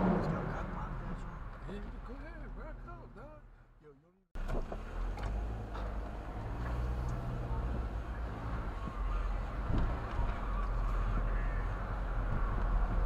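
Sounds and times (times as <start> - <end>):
car engine and tyre rumble: 0.0 - 3.8, 4.4 - 13.0.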